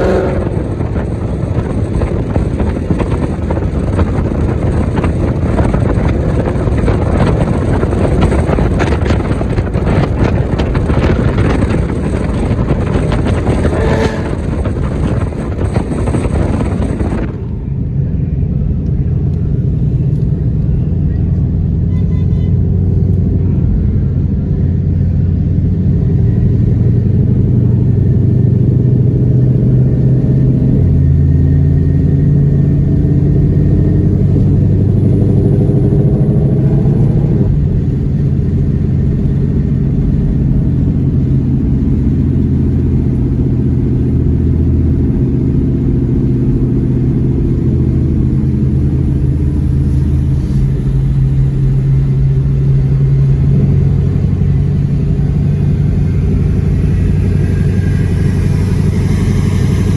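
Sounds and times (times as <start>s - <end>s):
car engine drone: 0.0s - 59.9s
road rumble: 0.0s - 59.9s.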